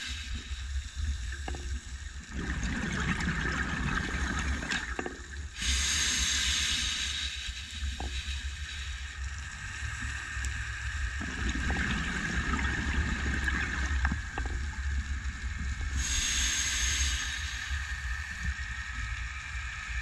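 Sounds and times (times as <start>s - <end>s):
scuba exhaust bubbling: 0.0s - 18.6s
muffled underwater rumble: 0.0s - 20.0s.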